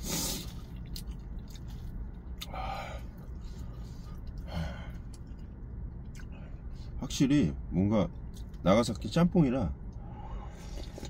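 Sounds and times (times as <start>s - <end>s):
quiet eating noises: 0.0s - 7.0s, 8.1s - 9.1s, 9.9s - 11.0s
steady low hum: 0.0s - 11.0s.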